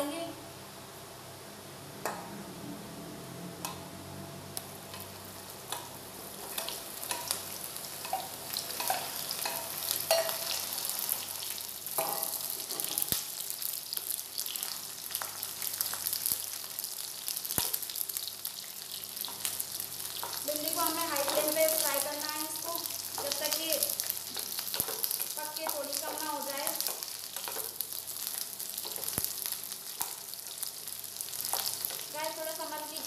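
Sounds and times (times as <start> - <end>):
vegetables sizzling in oil: 4.5 - 33.0.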